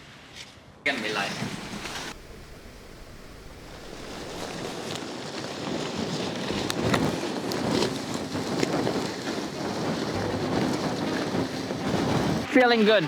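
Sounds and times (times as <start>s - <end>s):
faint crackles: 0.9s - 13.0s
wind buffeting microphone: 1.2s - 13.0s.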